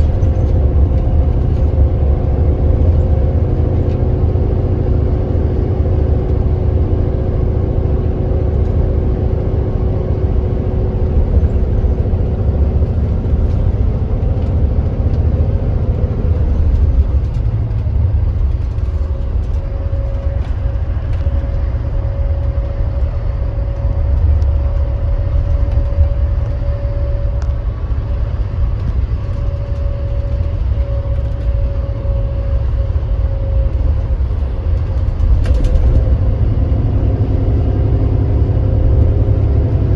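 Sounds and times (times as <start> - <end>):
coach engine and road rumble: 0.0 - 39.9.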